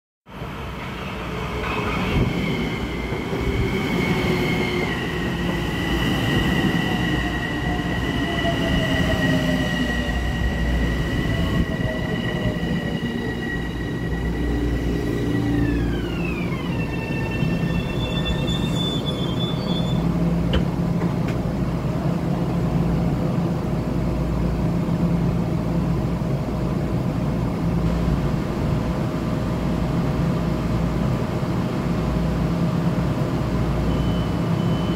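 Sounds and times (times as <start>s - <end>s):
standing train hum: 0.3s - 34.9s
train wheels rumbling on rail: 0.3s - 34.9s.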